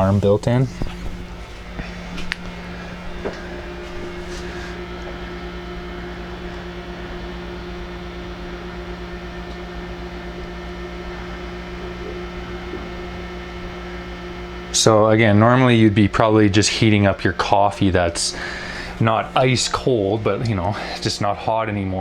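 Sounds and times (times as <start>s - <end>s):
microwave oven electrical hum: 0.0s - 22.0s.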